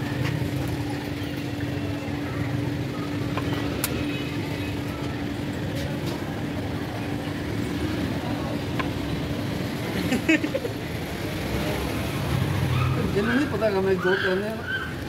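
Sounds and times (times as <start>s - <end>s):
constant hum: 0.0s - 13.0s
road traffic rumble: 0.0s - 15.0s.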